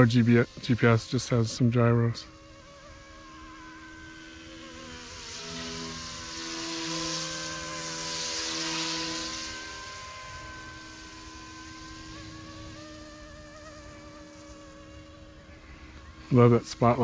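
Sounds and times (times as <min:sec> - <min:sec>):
rc helicopter rotors whining: 0:00.0 - 0:17.0.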